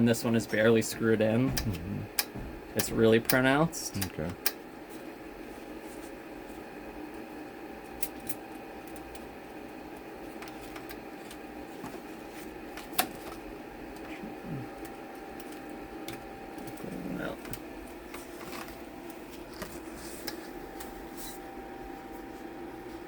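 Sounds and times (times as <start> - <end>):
room hum with faint whine: 0.0 - 23.0.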